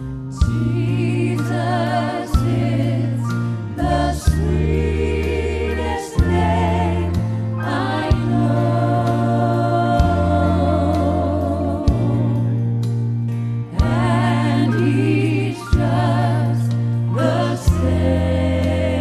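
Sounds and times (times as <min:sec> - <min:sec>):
backing singers: 0:00.3 - 0:12.6, 0:13.7 - 0:19.0.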